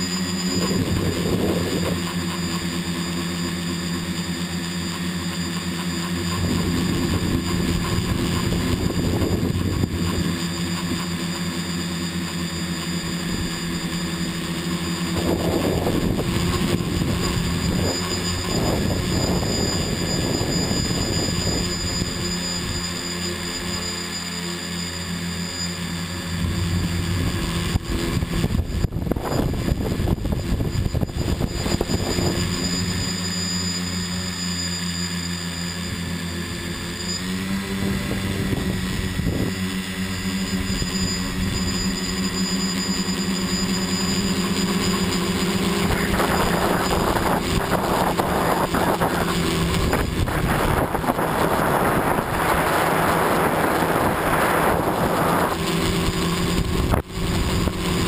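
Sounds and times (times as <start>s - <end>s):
drone motors and propellers: 0.0s - 58.0s.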